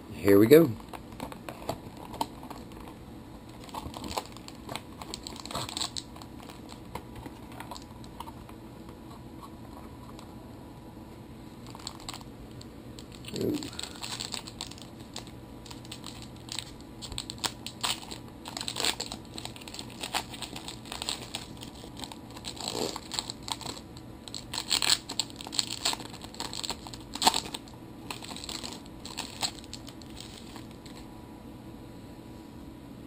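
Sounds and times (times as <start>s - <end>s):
card pack wrapper tearing and crinkling: 0.8s - 8.3s, 11.6s - 31.0s.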